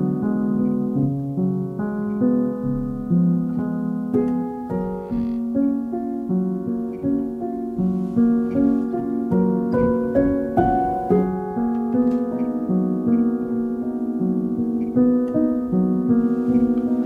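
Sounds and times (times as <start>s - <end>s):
soft keyboard chords: 0.0s - 17.0s.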